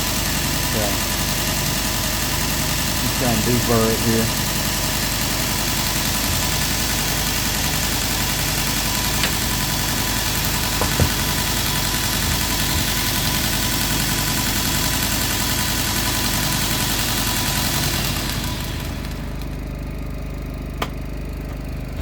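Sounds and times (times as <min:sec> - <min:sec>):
blade grinding on belt: 0:00.0 - 0:19.5
belt grinder running: 0:00.0 - 0:20.9.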